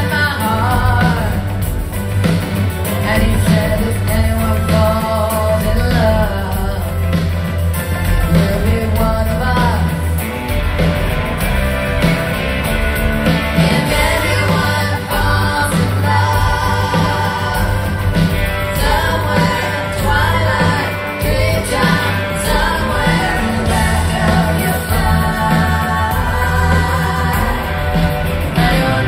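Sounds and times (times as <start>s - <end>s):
woman singing: 0.0s - 1.8s, 2.8s - 7.3s, 8.0s - 10.2s, 13.5s - 29.0s
live rock band playing: 0.0s - 29.0s.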